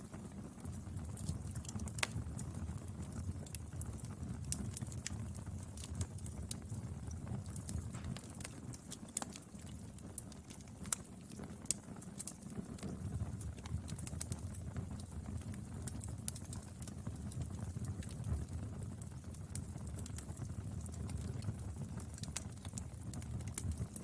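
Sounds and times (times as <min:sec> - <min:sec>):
firewood crackling and popping: 0:00.0 - 0:24.0
low rumble of fire: 0:00.0 - 0:24.0.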